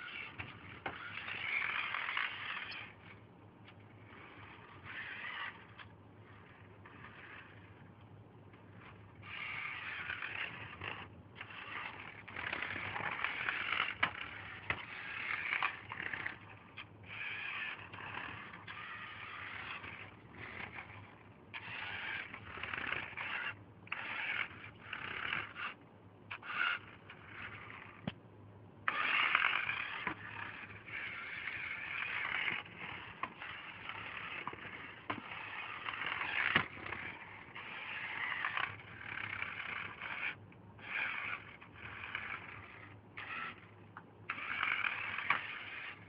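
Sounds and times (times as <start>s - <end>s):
toy car electric motor whirring: 0.0s - 28.2s, 28.8s - 46.0s.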